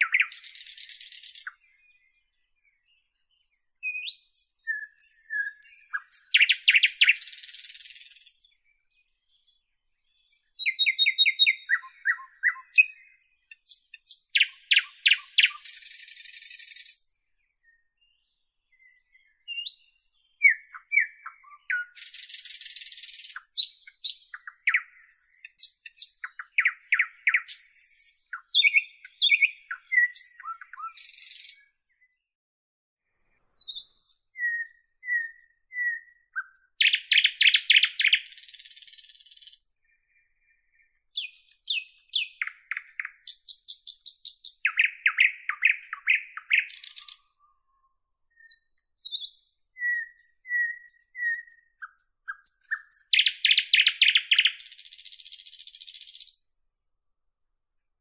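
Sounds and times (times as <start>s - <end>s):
nightingale singing: 0.0s - 32.2s, 33.3s - 56.7s, 57.8s - 58.0s.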